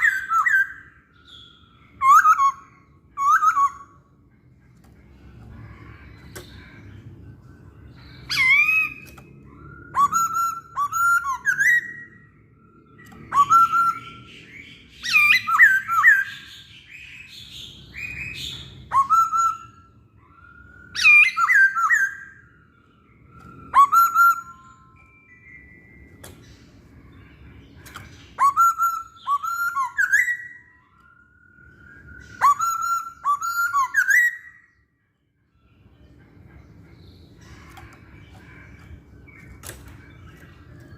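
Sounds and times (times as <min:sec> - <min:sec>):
bird singing whistled notes: 0:00.0 - 0:04.3, 0:05.7 - 0:34.9.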